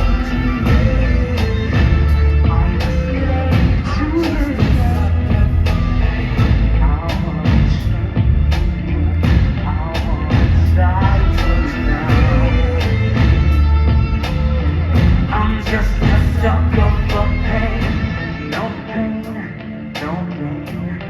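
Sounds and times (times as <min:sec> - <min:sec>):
song with heavy bass: 0:00.0 - 0:21.0.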